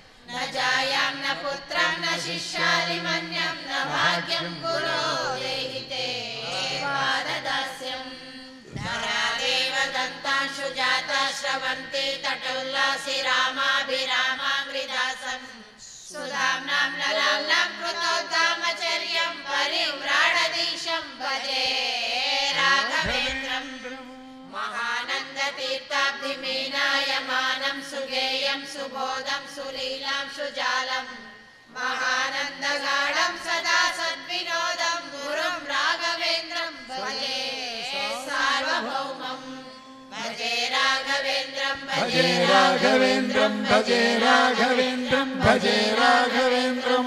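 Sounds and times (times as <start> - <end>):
devotional chanting: 0.0 - 47.0.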